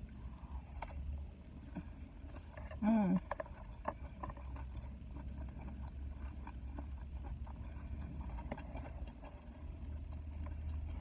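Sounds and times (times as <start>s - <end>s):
low rumble inside a car: 0.0s - 11.0s
chewing crunches and clicks: 0.2s - 11.0s.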